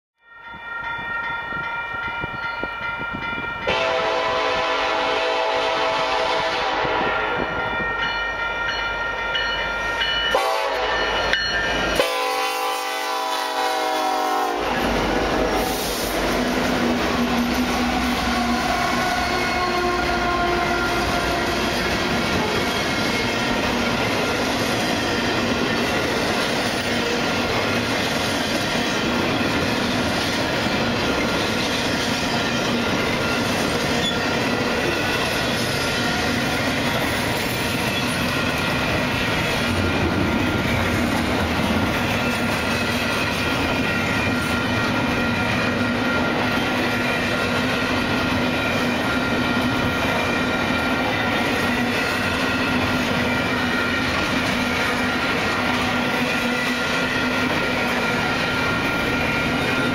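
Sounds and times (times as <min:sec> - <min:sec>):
train wheels on rails: 0:00.4 - 0:59.9.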